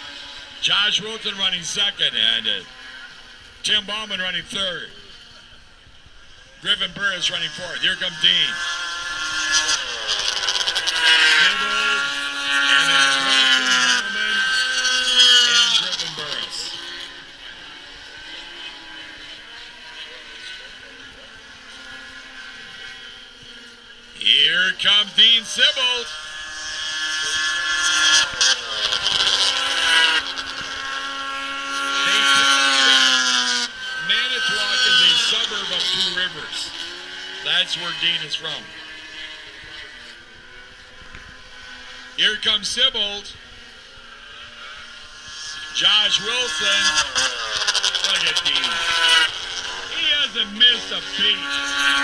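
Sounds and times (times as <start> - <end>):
snowmobile engines at high revs: 0.0 - 52.0.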